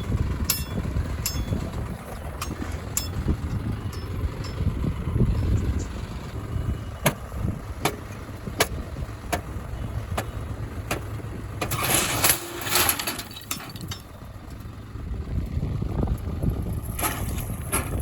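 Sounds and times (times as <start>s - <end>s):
diesel machinery rumble: 0.0s - 18.0s.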